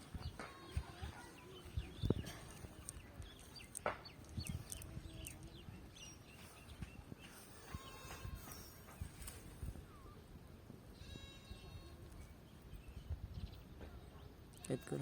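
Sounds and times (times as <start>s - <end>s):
birds chirping: 0.0s - 10.3s, 11.1s - 15.0s.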